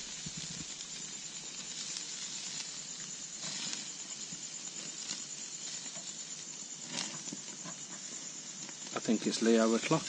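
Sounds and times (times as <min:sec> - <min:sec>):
faint ticks and crackles: 0:00.0 - 0:10.0
high-pitched insect chorus: 0:00.0 - 0:10.0.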